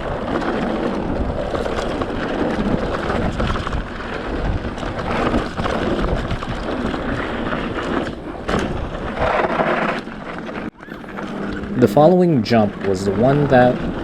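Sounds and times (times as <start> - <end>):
bike tyres crunching on dirt: 0.0 - 14.0
wind buffeting microphone: 0.0 - 14.0.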